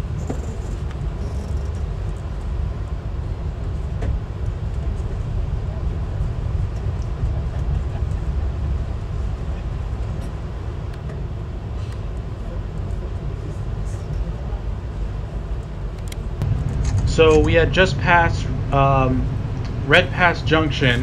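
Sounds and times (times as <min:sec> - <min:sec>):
train rumbling on track: 0:00.0 - 0:21.0.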